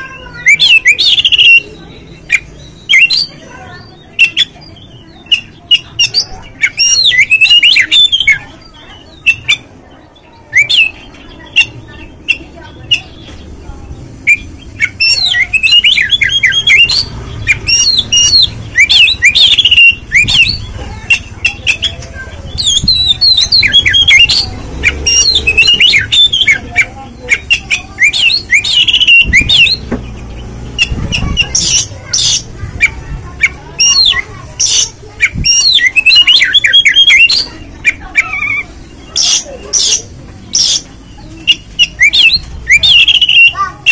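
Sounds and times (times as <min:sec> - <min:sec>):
bird singing chirps and whistles: 0:00.1 - 0:09.6, 0:10.4 - 0:13.1, 0:14.2 - 0:40.0, 0:40.6 - 0:43.9.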